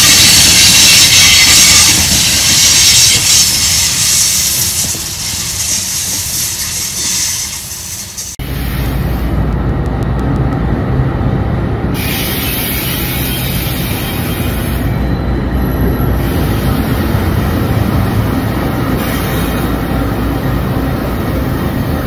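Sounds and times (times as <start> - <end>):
diesel locomotives passing: 0.0 - 22.0
train wheels rolling on rails: 0.0 - 22.0.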